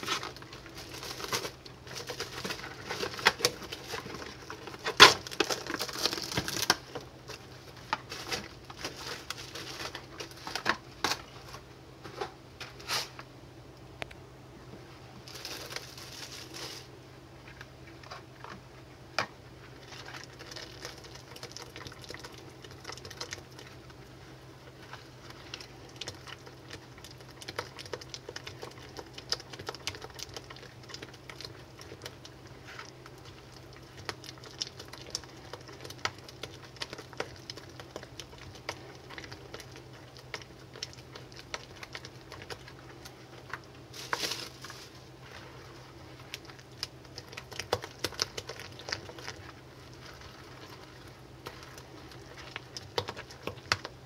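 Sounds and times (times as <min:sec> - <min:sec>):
plastic wrap crinkling: 0:00.0 - 0:11.6, 0:15.2 - 0:18.6, 0:19.6 - 0:54.0.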